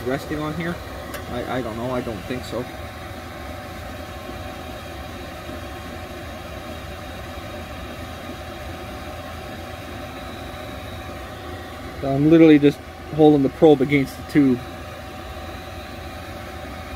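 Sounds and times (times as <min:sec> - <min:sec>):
diesel air heater whirring: 0:00.0 - 0:16.9.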